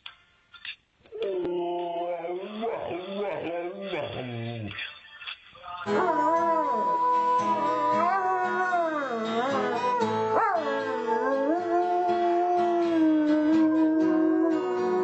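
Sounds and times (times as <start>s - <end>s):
dog howling: 1.2s - 4.6s, 5.9s - 15.0s
music playing: 2.4s - 15.0s.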